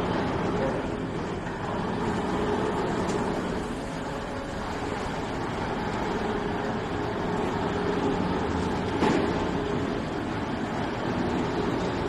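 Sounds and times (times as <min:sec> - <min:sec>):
glass milling machine humming: 0:00.0 - 0:12.0.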